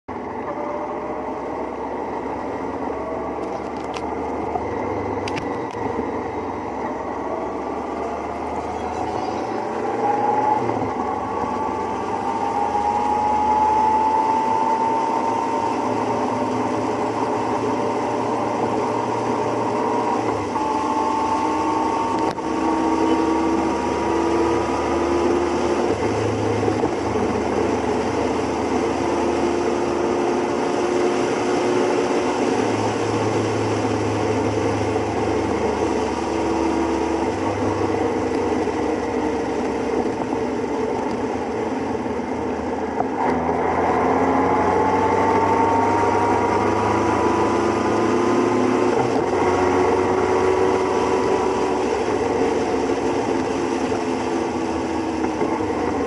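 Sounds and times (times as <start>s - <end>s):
road noise: 0.0s - 56.0s
motorcycle engines running: 0.1s - 56.0s.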